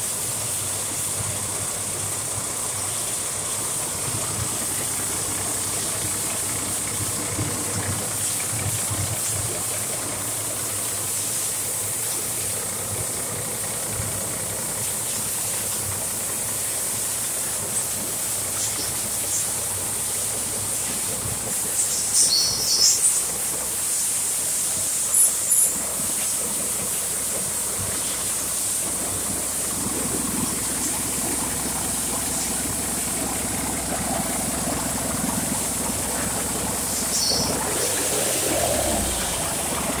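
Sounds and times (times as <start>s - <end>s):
diesel engine running: 0.0s - 22.2s, 23.1s - 40.0s.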